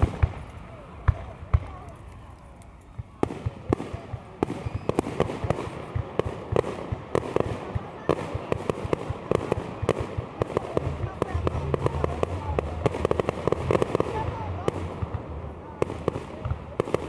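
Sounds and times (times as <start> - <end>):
fireworks bangs and crackling pops: 0.0 - 17.0.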